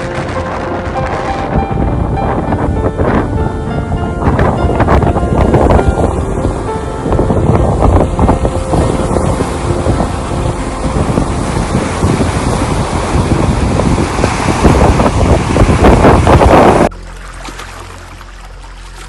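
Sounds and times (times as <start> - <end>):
wind buffeting microphone: 0.0 - 16.9
rushing water: 0.0 - 19.0.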